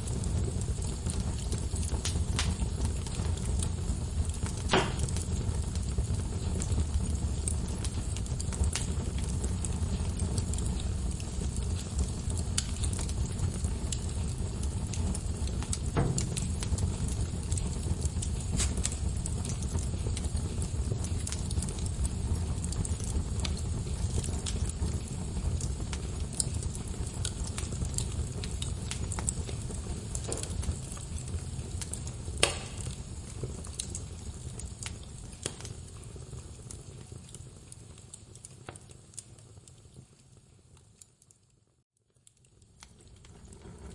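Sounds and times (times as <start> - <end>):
fire pop: 0.0 - 39.6, 42.0 - 43.9
wood fire crackling: 0.0 - 43.9.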